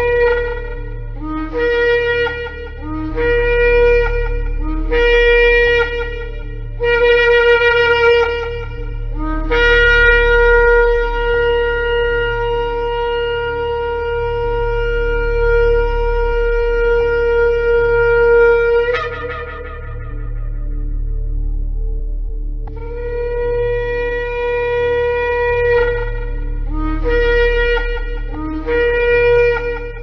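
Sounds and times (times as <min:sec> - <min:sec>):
shofar blasts: 0:00.0 - 0:21.5, 0:22.7 - 0:30.0
steady low hum: 0:00.0 - 0:30.0.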